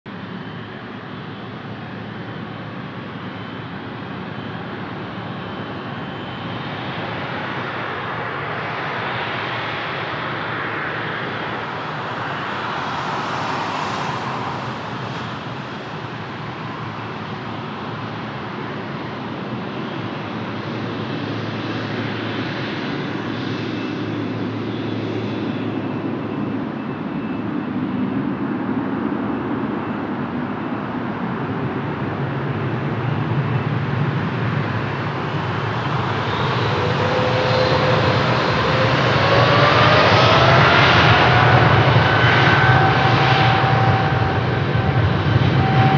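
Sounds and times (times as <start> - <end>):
jet engines rumbling: 0.1 - 45.9.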